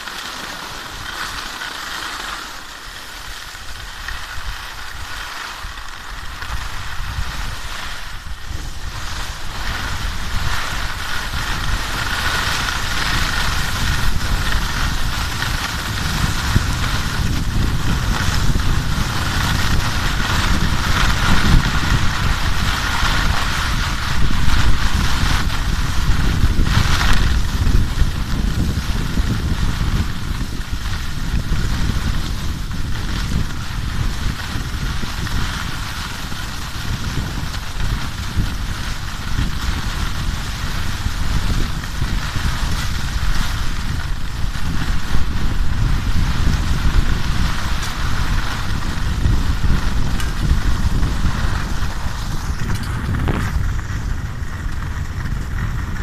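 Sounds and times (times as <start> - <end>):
skis sliding over snow: 0.0 - 56.0
wind rumbling on microphone: 0.0 - 56.0.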